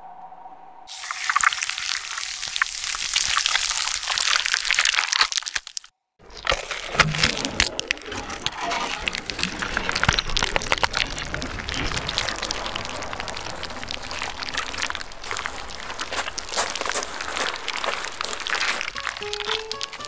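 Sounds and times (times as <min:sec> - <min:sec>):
footsteps crunching on gravel: 0:00.9 - 0:20.0.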